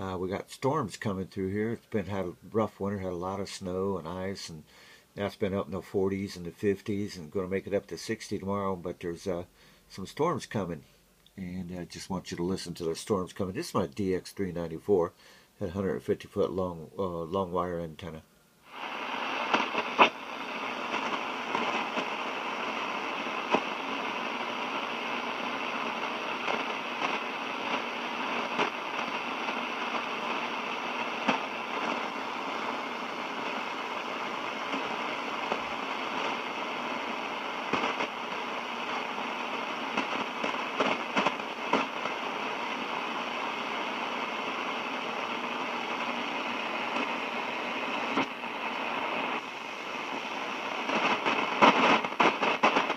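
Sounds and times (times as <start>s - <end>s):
radio static hiss: 0.0s - 52.9s.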